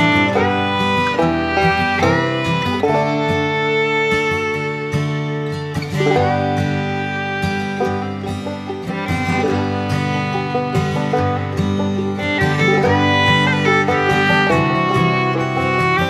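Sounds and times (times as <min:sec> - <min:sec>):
upbeat bluegrass music: 0:00.0 - 0:16.0.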